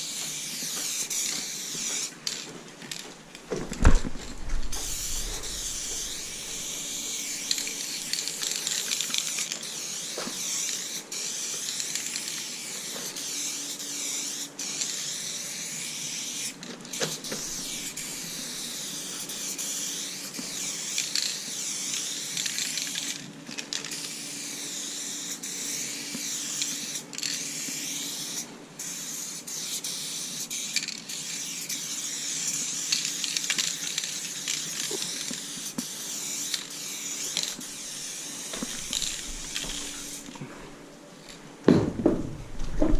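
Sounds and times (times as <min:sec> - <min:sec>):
spray-paint can hissing: 0:00.0 - 0:02.5, 0:03.8 - 0:40.4.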